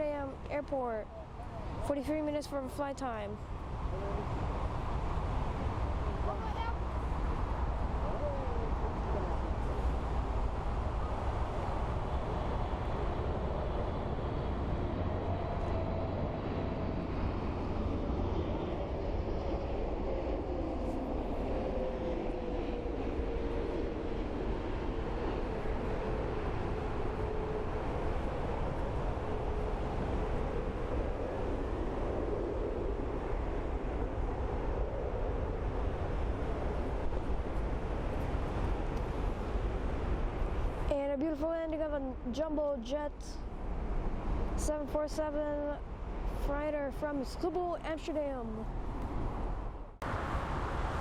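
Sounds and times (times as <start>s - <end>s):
faint engine whine: 0.0s - 51.0s
jet engine rumble: 0.0s - 51.0s.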